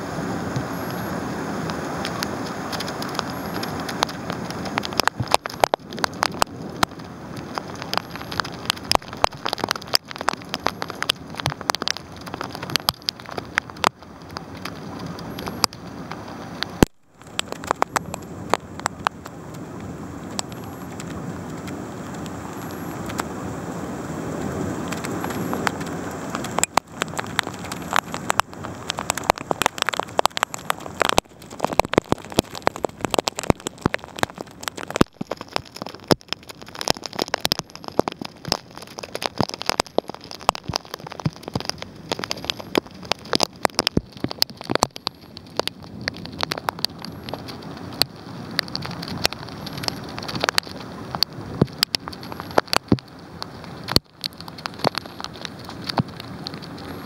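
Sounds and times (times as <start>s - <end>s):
heavy rain hissing: 0.0s - 57.0s
raindrops ticking on hard surfaces: 0.0s - 57.0s.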